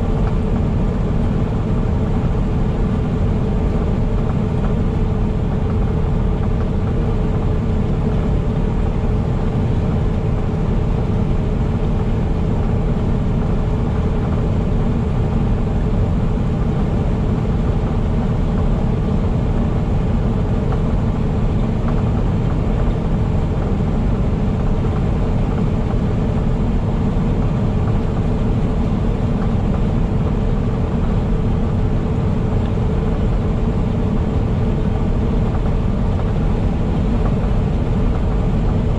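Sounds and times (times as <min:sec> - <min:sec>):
road and tyre noise: 0:00.0 - 0:38.9
truck engine drone: 0:00.0 - 0:38.9.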